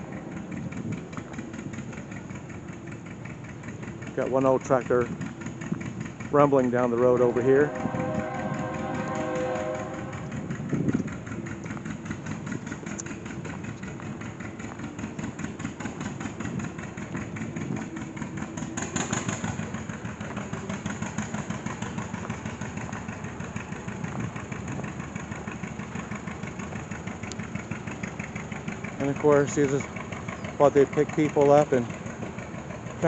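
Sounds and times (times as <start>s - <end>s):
tractor engine exhaust beat: 0.0s - 33.0s.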